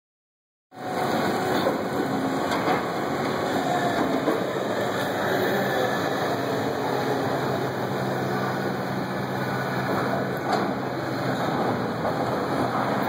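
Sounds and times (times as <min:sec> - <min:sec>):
excavator rock crusher working: 0:00.8 - 0:13.0.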